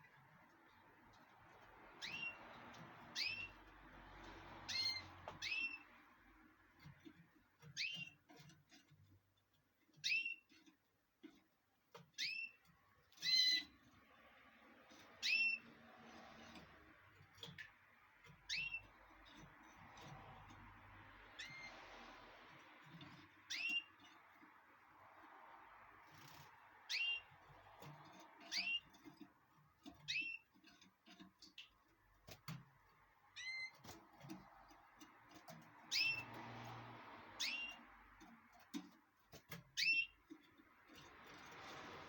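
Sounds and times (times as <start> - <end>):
canary chirping: 0.0 - 42.0.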